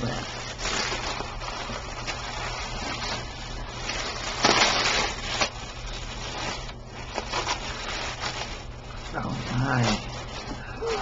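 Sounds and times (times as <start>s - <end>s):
tissue paper rustling: 0.0s - 11.0s.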